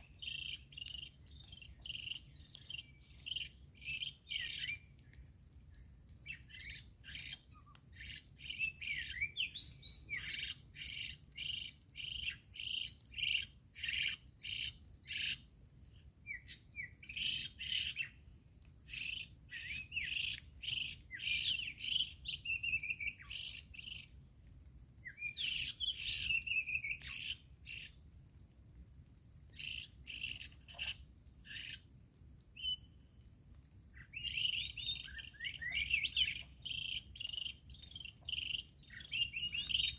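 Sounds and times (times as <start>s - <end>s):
songbird chirping: 0.0s - 28.5s, 29.5s - 39.9s.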